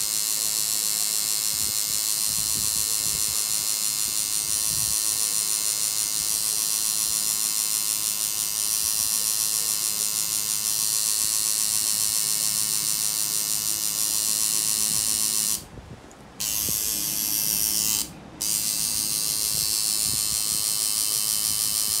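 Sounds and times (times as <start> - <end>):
tattoo machine buzzing: 0.0 - 15.7, 16.4 - 22.0.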